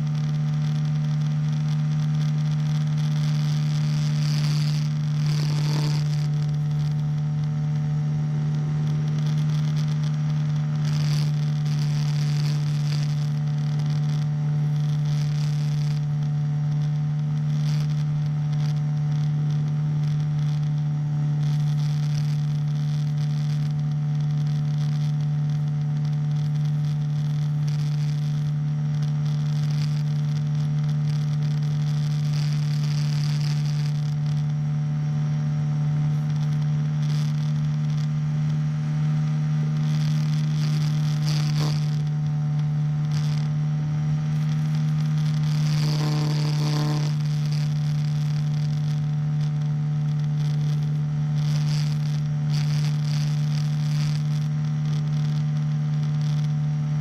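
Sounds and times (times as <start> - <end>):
small engine droning: 0.0 - 57.0.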